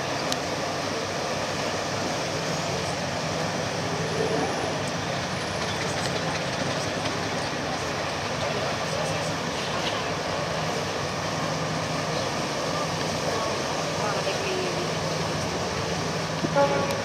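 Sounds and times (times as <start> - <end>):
boat engines rumbling: 0.0 - 17.0
propeller wash churning water: 0.0 - 17.0.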